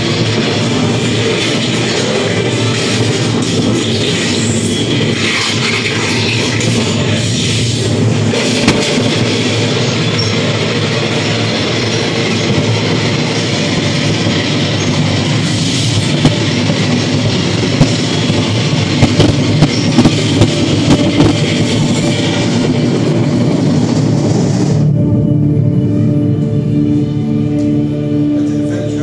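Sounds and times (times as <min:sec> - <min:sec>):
continuous rumble: 0:00.0 - 0:29.0
film soundtrack music: 0:00.0 - 0:29.0.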